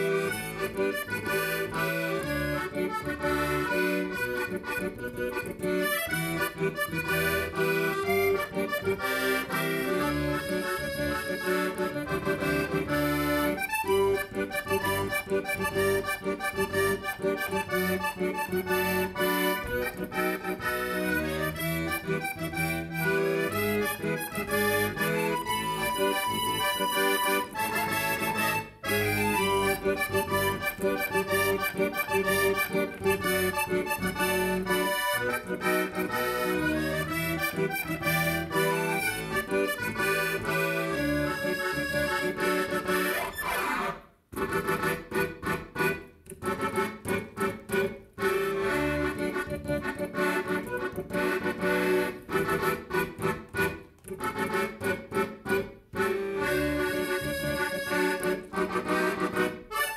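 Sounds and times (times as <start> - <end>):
free-reed instrument melody: 0.0 - 59.9.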